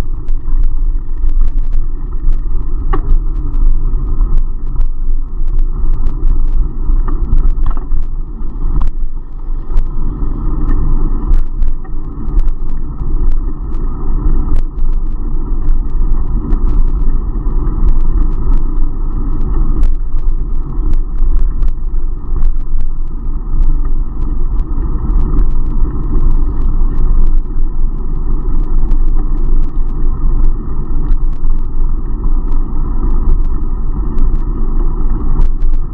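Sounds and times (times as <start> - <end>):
road rumble: 0.0 - 35.9
small sharp clicks and knocks: 0.1 - 9.1, 10.6 - 31.8, 32.4 - 35.9.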